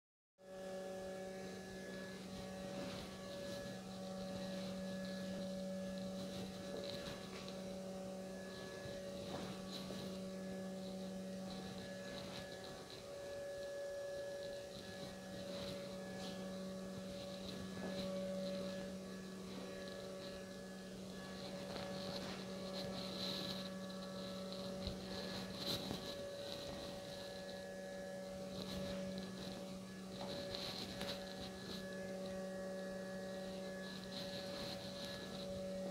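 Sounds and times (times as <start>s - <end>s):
electrical hum: 0.4s - 35.9s.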